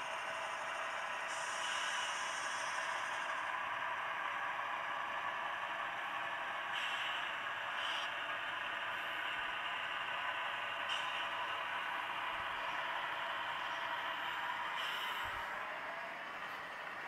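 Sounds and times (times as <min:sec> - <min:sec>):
model train cars rolling: 0:00.0 - 0:17.0.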